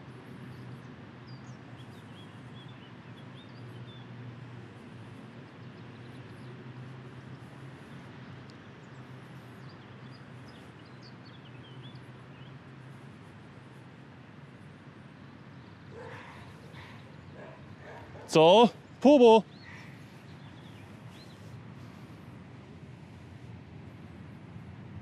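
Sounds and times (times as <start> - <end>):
small birds chirping: 0.0 - 24.4.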